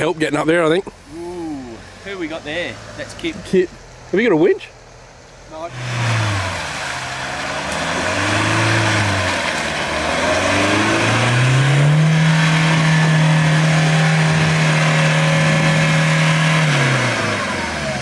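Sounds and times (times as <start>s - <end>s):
four-wheel drive engine revving: 0.0s - 18.0s.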